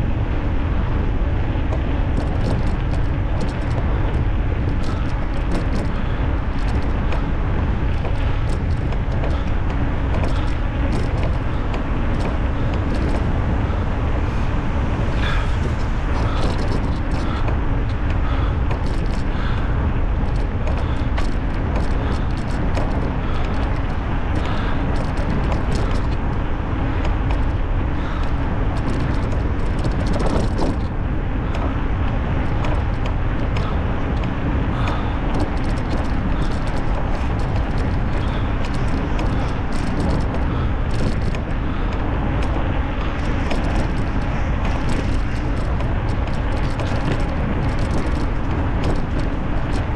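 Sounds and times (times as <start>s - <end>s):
tyre and road rumble: 0.0s - 49.9s
wind rush on microphone: 0.0s - 49.9s.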